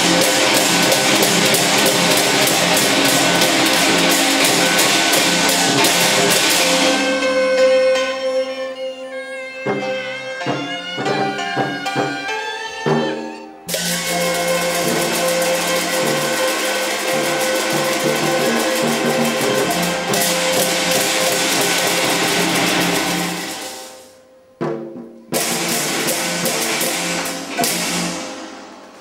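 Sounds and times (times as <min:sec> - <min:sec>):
gong and drum ensemble: 0:00.0 - 0:08.6, 0:09.6 - 0:29.0.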